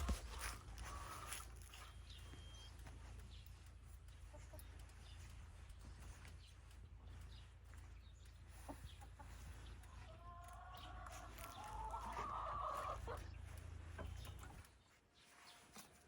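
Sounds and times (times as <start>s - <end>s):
low steady rumble: 0.0s - 14.7s
chickens clucking: 0.0s - 14.9s.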